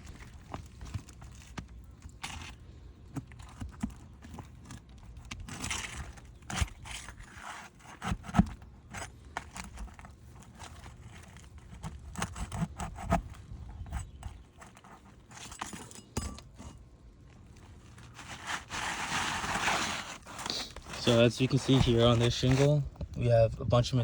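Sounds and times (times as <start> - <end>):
roof shingles scraping and clicking: 0.0 - 16.6, 17.2 - 23.0.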